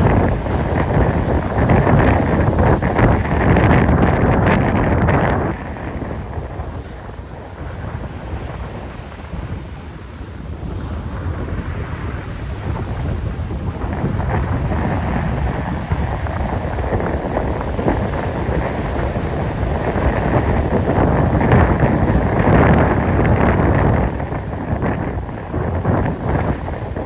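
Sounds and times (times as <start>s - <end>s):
choppy sea water: 0.0s - 27.0s
wind buffeting microphone: 0.0s - 27.0s.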